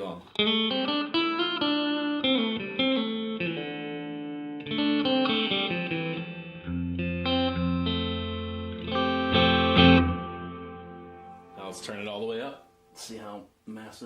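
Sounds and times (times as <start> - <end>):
electric guitar with reverb: 0.0 - 13.0.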